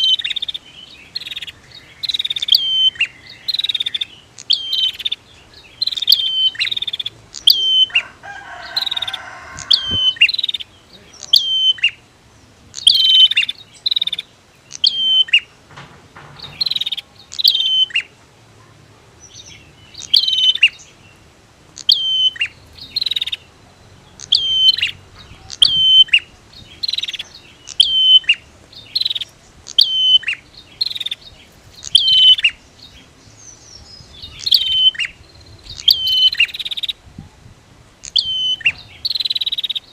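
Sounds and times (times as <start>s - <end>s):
bird chirping sharply: 0.0s - 12.0s, 12.7s - 15.7s, 16.4s - 18.2s, 19.2s - 21.2s, 21.8s - 37.0s, 38.0s - 39.9s.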